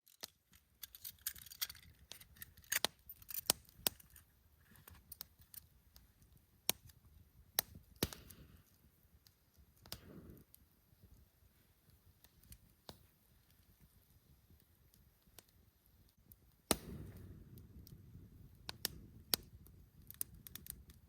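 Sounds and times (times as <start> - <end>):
campfire crackling and popping: 0.1 - 21.0.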